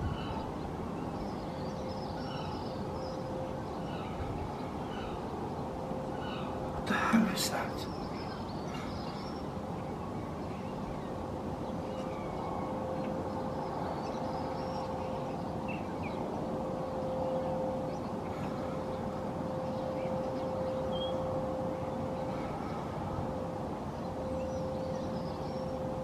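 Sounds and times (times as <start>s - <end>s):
faint bird calls: 0.0s - 26.0s
steady mid-range hum: 0.0s - 26.0s.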